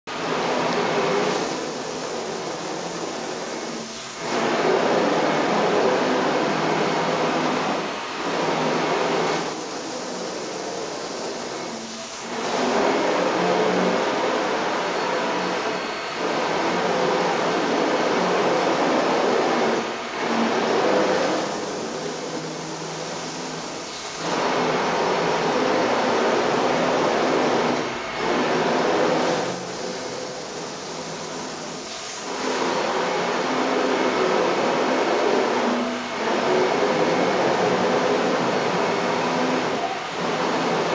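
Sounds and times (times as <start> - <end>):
cnc router whirring: 0.1 - 40.9.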